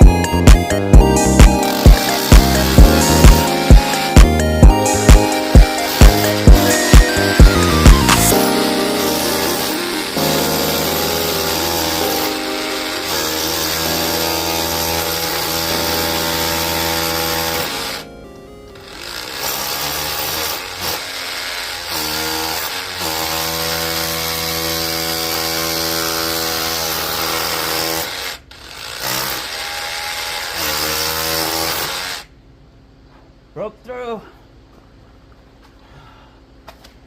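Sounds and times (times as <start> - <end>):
jackhammer hammering into rock: 0.0 - 18.0, 18.9 - 32.3.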